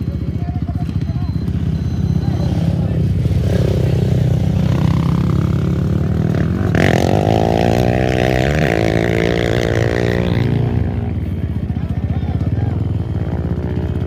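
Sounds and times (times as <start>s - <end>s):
racing engine revving: 0.8s - 14.0s.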